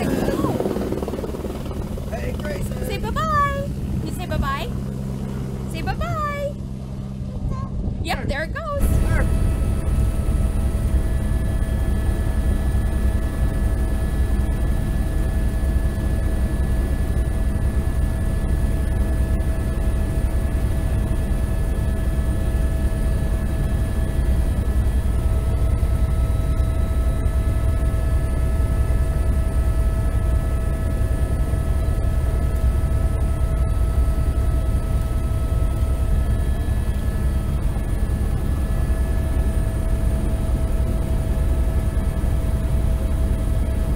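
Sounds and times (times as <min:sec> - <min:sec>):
helicopter rotor and engine: 0:00.0 - 0:43.9.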